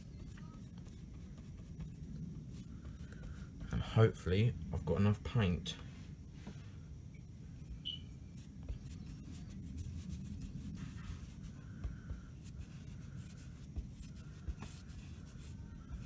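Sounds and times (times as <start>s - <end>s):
paintbrush strokes scratching: 0.0s - 4.2s, 7.4s - 16.0s
low steady hum: 0.0s - 16.0s.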